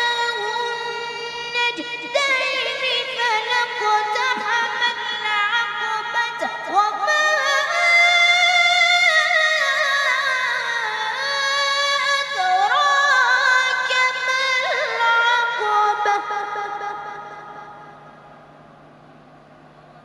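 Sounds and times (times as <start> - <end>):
boy reciting melodically: 0.0 - 18.0.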